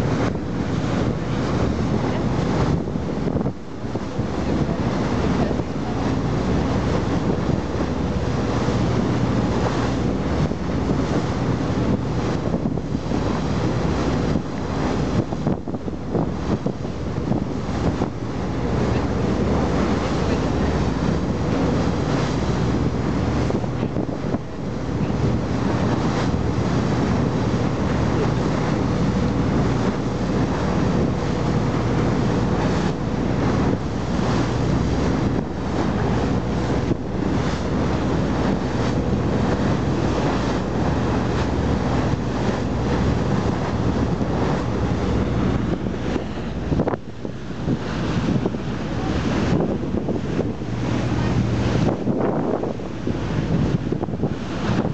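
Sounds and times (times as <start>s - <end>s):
boat engine running: 0.0s - 54.9s
wind buffeting microphone: 0.0s - 54.9s.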